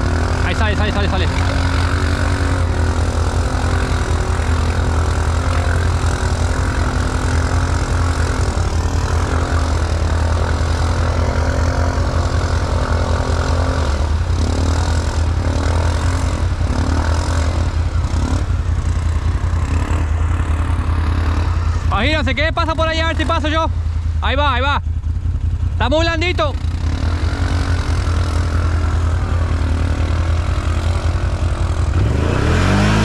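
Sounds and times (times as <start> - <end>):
atv engine running at low revs: 0.0 - 33.0.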